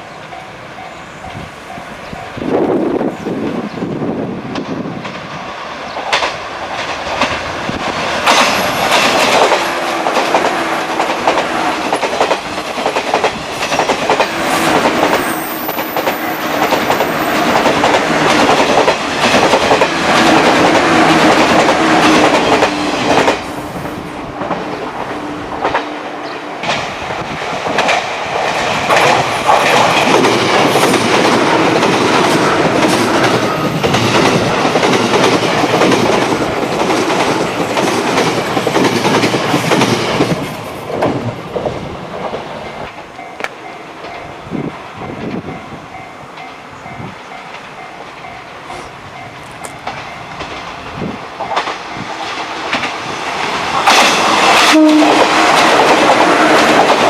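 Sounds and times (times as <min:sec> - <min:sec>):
steady train hum: 0:00.0 - 0:57.0
train wheels on rails: 0:00.0 - 0:57.0.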